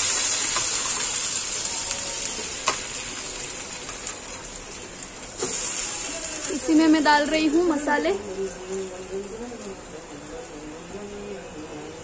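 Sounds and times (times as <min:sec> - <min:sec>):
meat sizzling in hot oil: 0:00.0 - 0:09.7.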